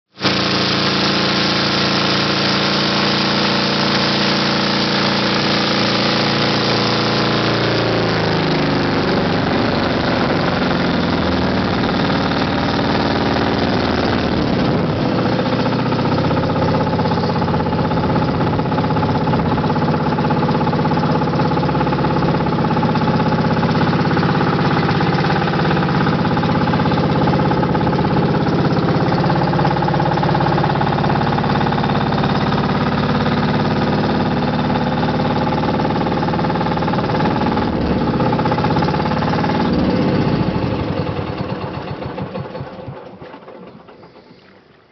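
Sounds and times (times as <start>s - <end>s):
boat engine running: 0.1s - 44.9s.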